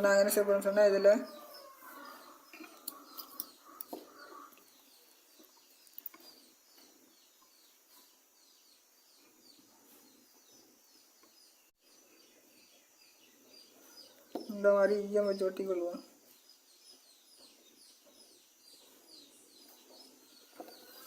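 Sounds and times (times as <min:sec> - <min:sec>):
small bird chirping faintly: 0:00.0 - 0:21.0.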